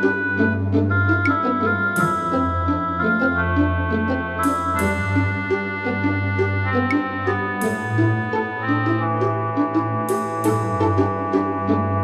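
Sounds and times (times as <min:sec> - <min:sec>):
keyboard music with bass: 0:00.0 - 0:12.0.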